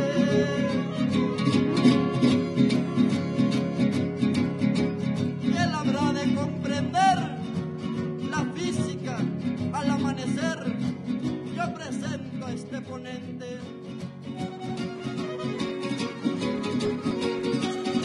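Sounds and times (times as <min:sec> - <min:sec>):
strummed guitars: 0:00.0 - 0:18.0.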